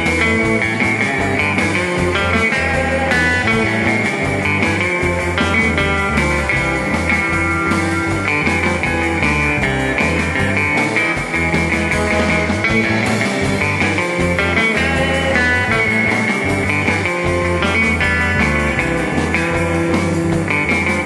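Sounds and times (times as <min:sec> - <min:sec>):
bass: 0:00.0 - 0:21.0
drums surf beat: 0:00.0 - 0:21.0
electric guitar: 0:00.0 - 0:21.0.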